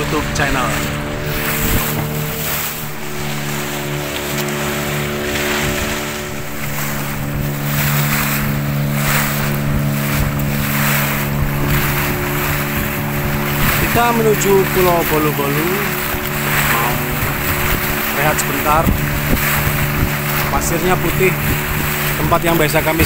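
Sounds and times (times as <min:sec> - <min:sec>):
boat motor running: 0:00.0 - 0:23.0
water rushing along hull: 0:00.0 - 0:23.0
wind on microphone: 0:00.0 - 0:23.0.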